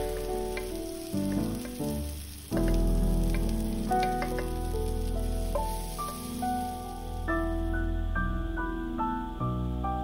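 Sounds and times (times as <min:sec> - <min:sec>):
faint sizzling hiss: 0:00.0 - 0:10.0
soft instrumental music: 0:00.0 - 0:10.0.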